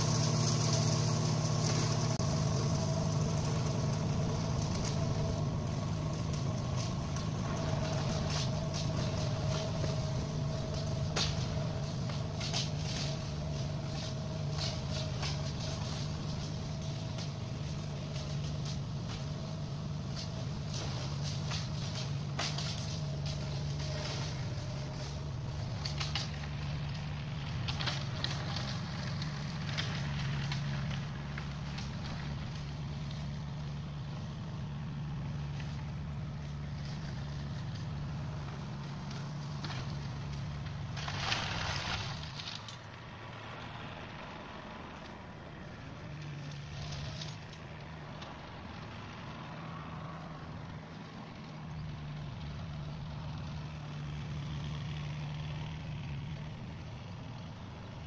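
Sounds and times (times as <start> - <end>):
distant tractor engine running: 0.0 - 58.0.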